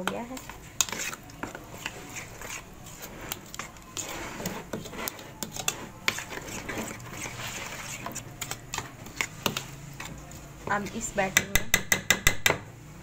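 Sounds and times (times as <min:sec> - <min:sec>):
spoon stirring in a bowl: 0:00.0 - 0:12.6.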